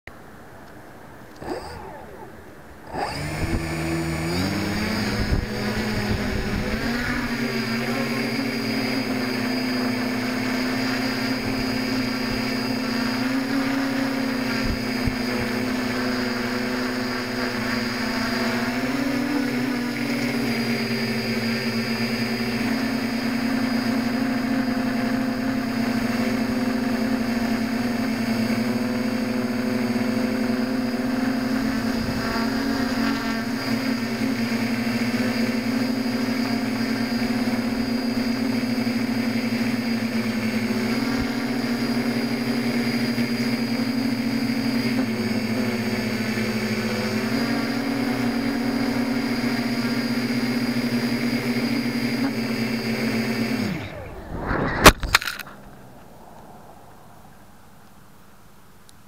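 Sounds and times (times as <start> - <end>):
drone motors and propellers: 0.2 - 58.6.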